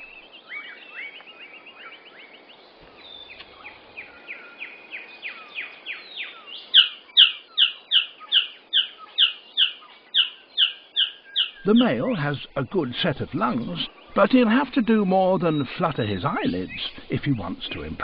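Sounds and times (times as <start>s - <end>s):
bird calling downslurred notes: 3.1s - 18.0s.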